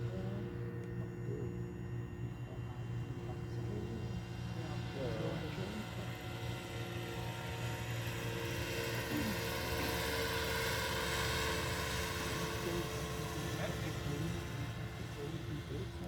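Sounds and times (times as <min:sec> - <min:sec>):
model helicopter whine: 0:00.0 - 0:16.0.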